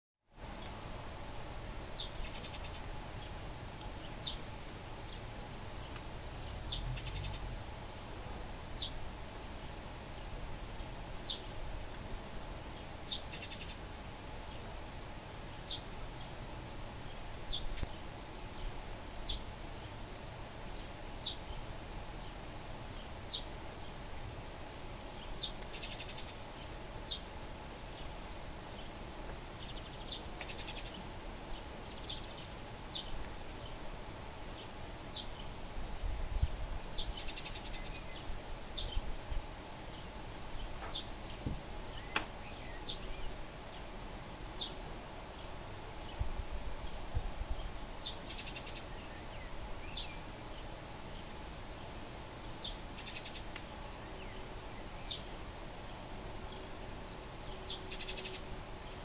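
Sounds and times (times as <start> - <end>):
sparrows chirping: 1.9 - 7.5, 8.8 - 9.0, 10.0 - 11.6, 12.6 - 20.1, 20.7 - 24.1, 25.1 - 27.3, 27.9 - 33.8, 34.5 - 35.6, 36.9 - 46.2, 46.8 - 56.7, 57.4 - 59.0.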